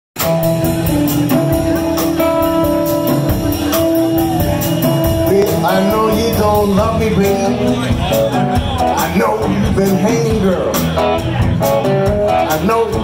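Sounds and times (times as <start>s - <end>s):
harmonica notes: 0.2s - 12.5s
drums with cymbal beat: 0.2s - 13.0s
electric guitar: 0.2s - 13.0s
upright bass: 0.2s - 13.0s.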